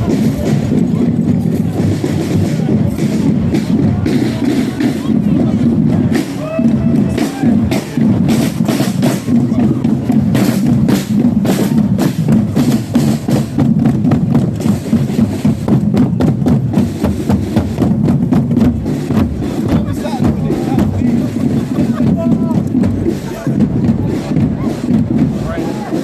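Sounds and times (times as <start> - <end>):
bass drum: 0.0 - 26.0
crowd chatter: 0.0 - 26.0
marching drums beating: 0.0 - 26.0.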